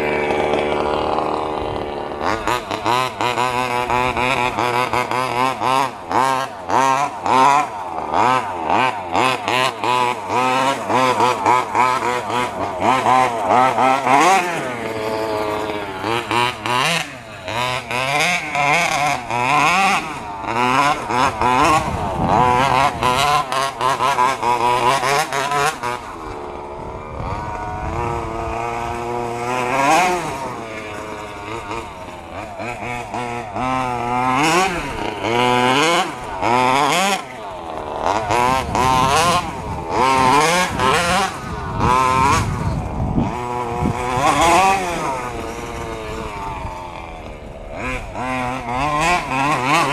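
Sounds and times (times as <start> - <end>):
small two-stroke engine revving: 0.0 - 49.9.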